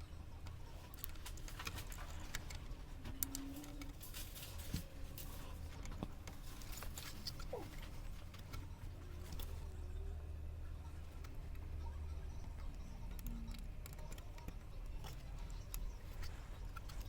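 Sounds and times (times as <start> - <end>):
steady low hum: 0.0 - 17.0
clicks and scratches of tools: 0.4 - 9.7, 12.4 - 17.0.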